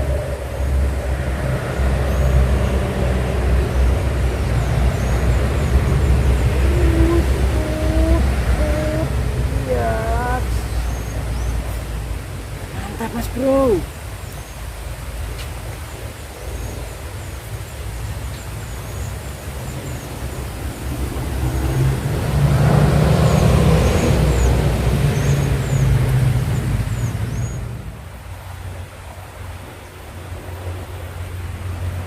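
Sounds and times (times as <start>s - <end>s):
vehicle engine hum passing by: 0.0s - 32.0s.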